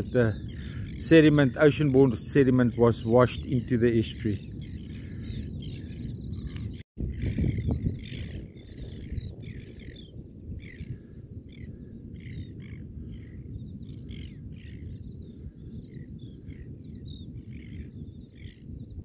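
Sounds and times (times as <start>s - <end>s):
birds chirping calls: 0.0s - 19.0s.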